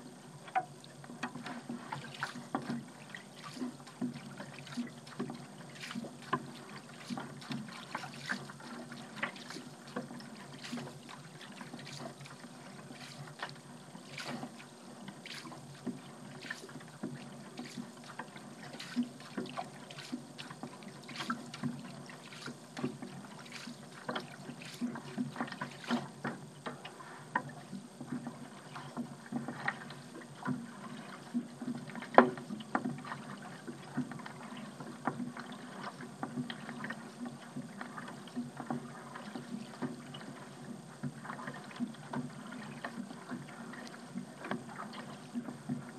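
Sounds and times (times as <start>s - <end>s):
paddle splashing in water: 0.0s - 45.9s.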